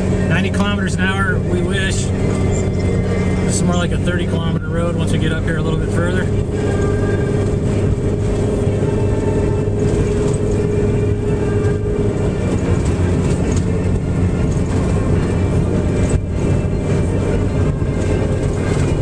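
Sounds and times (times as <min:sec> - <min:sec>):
higher tone: 0:00.0 - 0:19.0
steady low hum: 0:00.0 - 0:19.0
tyre and road noise: 0:00.0 - 0:19.0
vehicle engine drone: 0:00.0 - 0:19.0.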